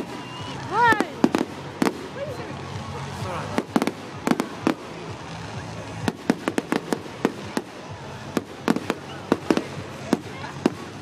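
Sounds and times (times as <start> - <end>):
fireworks exploding bangs: 0.0 - 11.0.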